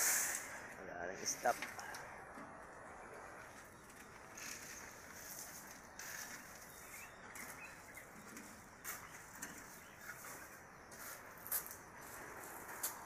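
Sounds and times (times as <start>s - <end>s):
birds calling: 0.3s - 12.4s.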